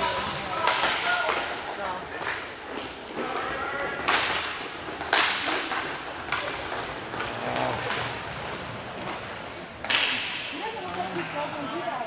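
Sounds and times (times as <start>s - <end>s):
hockey stick cracks: 0.1s - 11.4s.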